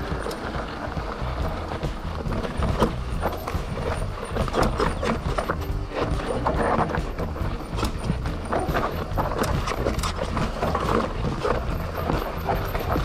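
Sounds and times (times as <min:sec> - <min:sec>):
bike rattling over rocky ground: 0:00.0 - 0:13.0
wind rumbling on microphone: 0:00.0 - 0:13.0.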